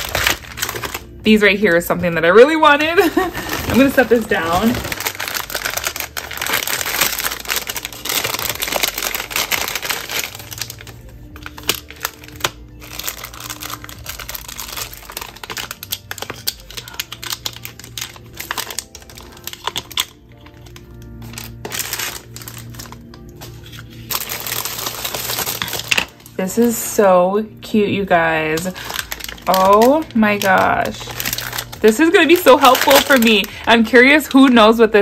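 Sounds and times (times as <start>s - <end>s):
plastic packaging crinkling: 0.0s - 1.3s, 2.6s - 27.0s, 28.4s - 34.8s
soft background music: 0.0s - 35.0s.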